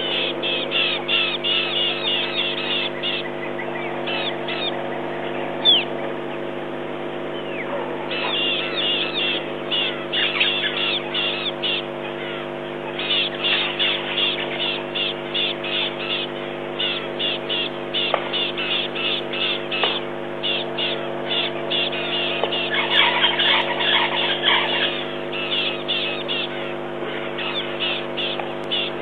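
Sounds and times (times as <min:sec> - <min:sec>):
rapid high chirping calls: 0:00.0 - 0:06.6, 0:07.3 - 0:29.0
low hum: 0:00.0 - 0:29.0.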